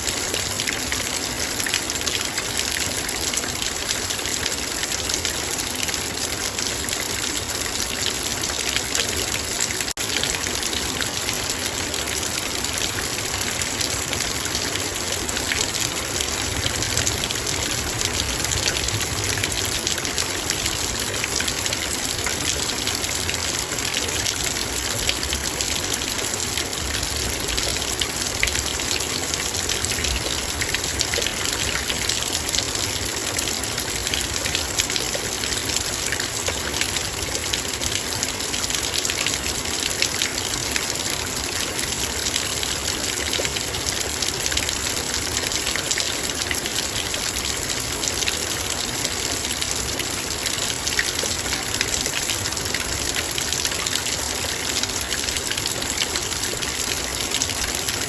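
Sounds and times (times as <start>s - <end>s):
rain on a metal bowl: 0.0s - 58.0s.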